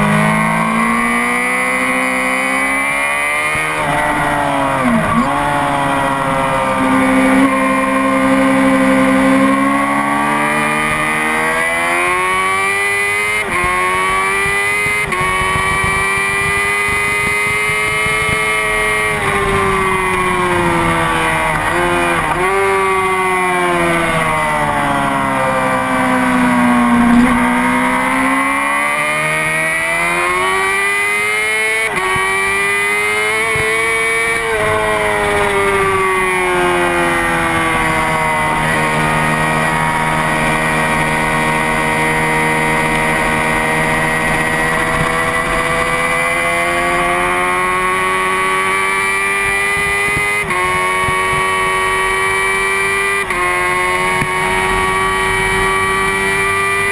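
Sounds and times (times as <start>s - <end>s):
sport bike engine revving: 0.0s - 56.9s.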